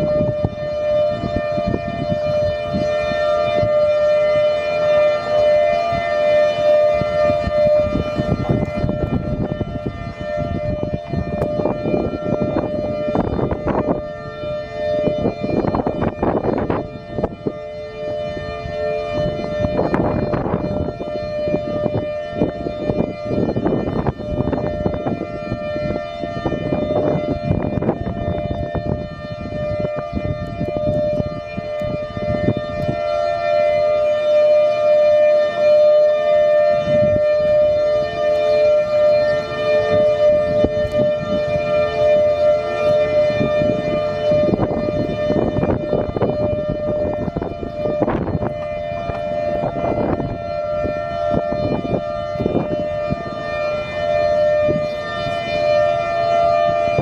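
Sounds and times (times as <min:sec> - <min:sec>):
warning siren steady tone: 0:00.0 - 0:57.0.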